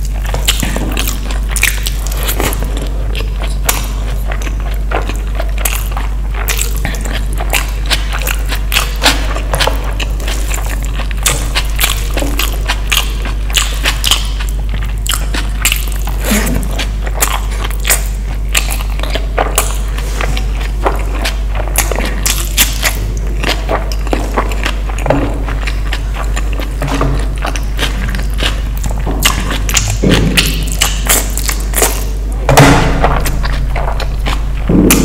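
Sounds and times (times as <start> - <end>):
mouth clicks and smacks: 0.0 - 35.0
person chewing: 0.0 - 35.0
steady low hum: 0.0 - 35.0.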